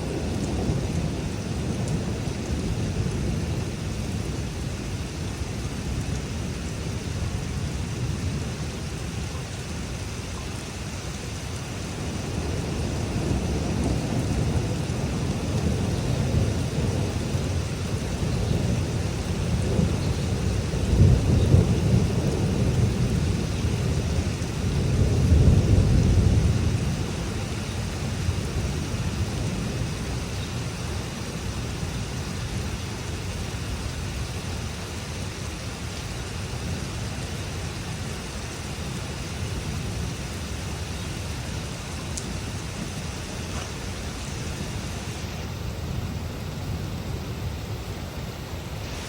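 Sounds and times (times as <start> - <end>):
heavy rain falling: 0.0 - 49.0
thunder rumbling: 0.0 - 49.0.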